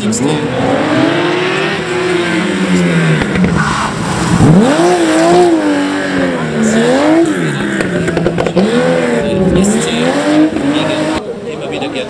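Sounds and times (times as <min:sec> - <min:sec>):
rally car driving away: 0:00.0 - 0:12.0
rally car engine revving: 0:00.0 - 0:12.0.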